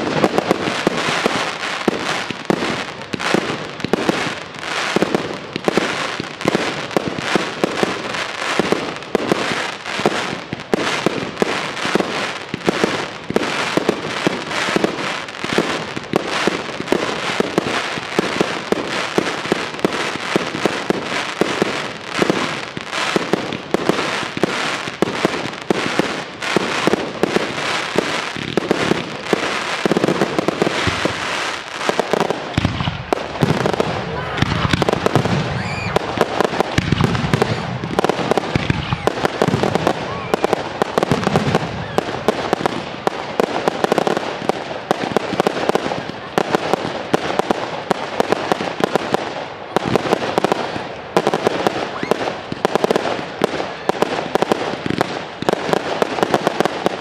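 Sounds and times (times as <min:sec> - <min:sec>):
fireworks bursts and bangs: 0:00.0 - 0:57.0.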